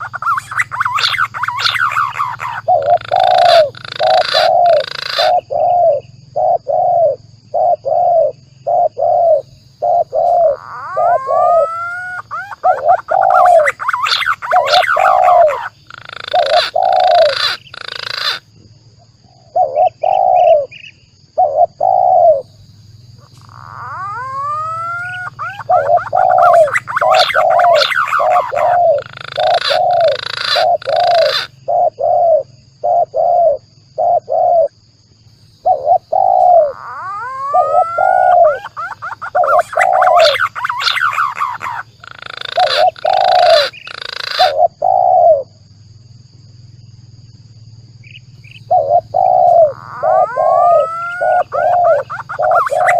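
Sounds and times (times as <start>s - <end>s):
doves cooing: 0.0s - 18.5s, 19.3s - 34.8s, 35.6s - 45.6s, 48.0s - 52.9s
pigeons whistling: 0.0s - 18.5s, 19.5s - 22.6s, 23.2s - 34.7s, 35.6s - 45.4s, 48.1s - 52.9s.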